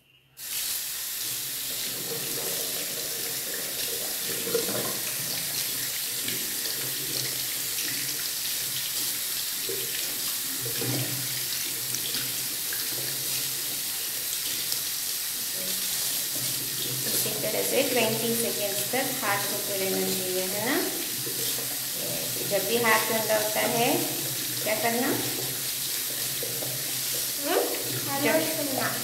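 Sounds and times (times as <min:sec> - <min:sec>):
hands rinsed under water: 0:00.4 - 0:29.0
tap water running into basin: 0:00.4 - 0:29.0.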